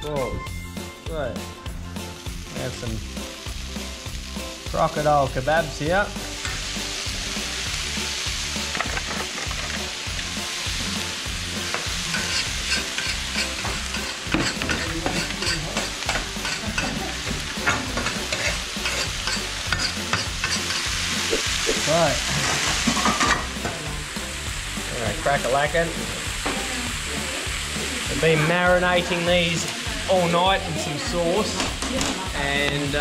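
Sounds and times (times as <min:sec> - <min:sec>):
meat sizzling on barbecue plate: 0:01.2 - 0:33.0.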